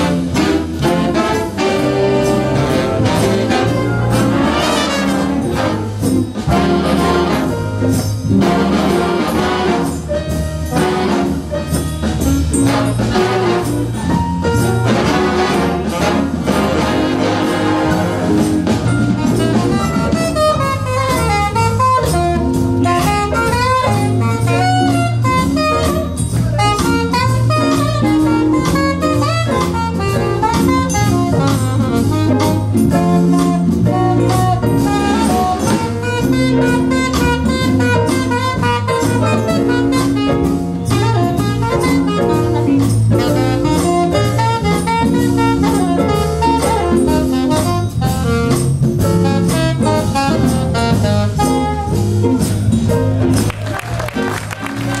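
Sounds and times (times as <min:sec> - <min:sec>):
saxophone section melody: 0:00.0 - 0:52.4, 0:53.0 - 0:55.0
brass: 0:00.0 - 0:55.0
drum kit: 0:00.0 - 0:55.0.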